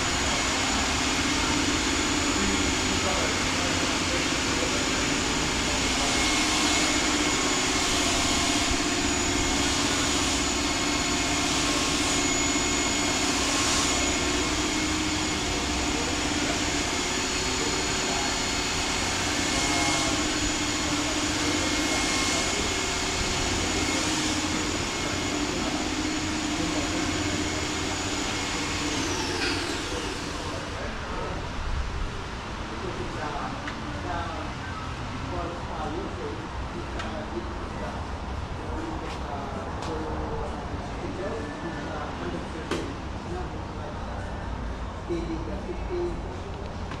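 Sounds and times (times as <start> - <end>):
machine running with whining tones: 0.0 - 47.0.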